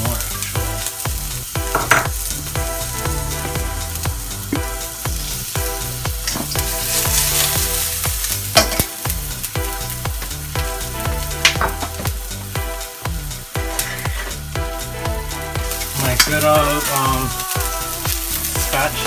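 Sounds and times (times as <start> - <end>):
background music with steady beat: 0.0 - 19.0
garlic sizzling in hot oil: 0.0 - 19.0.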